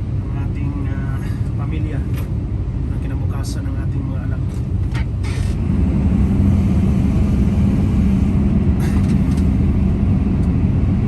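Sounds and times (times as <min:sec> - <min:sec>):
excavator diesel engine drone: 0:00.0 - 0:11.0.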